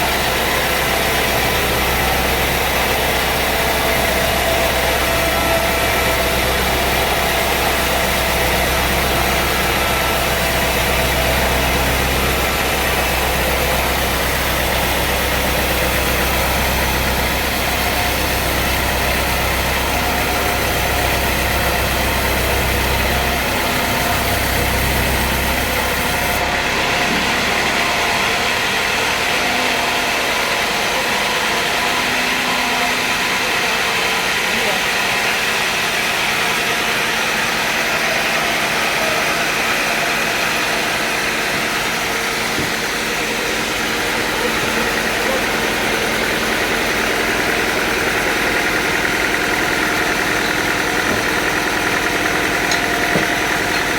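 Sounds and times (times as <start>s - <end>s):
deep machine hum: 0.0s - 53.9s
sawmill machinery running: 0.0s - 53.9s.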